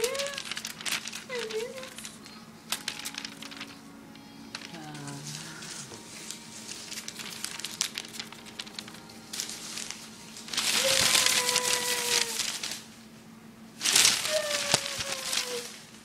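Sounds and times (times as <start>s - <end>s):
paper strips crackling and rustling: 0.0s - 16.0s.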